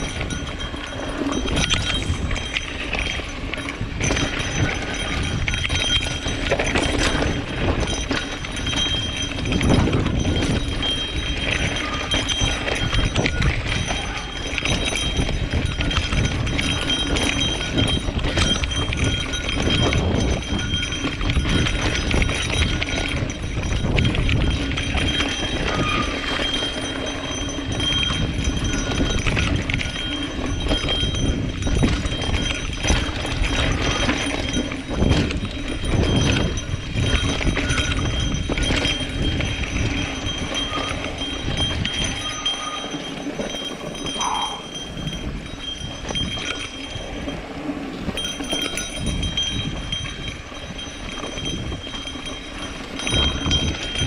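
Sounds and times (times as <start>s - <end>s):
bike rattling over bumps: 0.0s - 54.0s
wind rumble on microphone: 0.0s - 54.0s.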